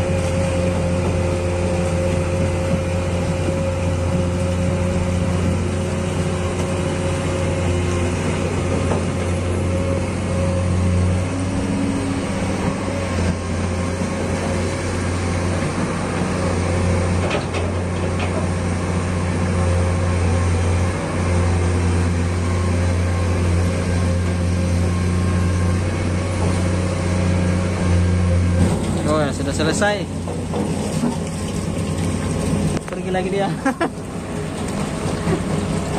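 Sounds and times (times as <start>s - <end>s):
excavator diesel engine: 0.0s - 35.9s.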